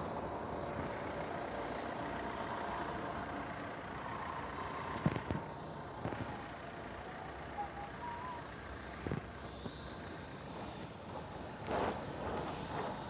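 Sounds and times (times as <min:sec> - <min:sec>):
tram rumbling with faint whine: 0:00.0 - 0:13.0.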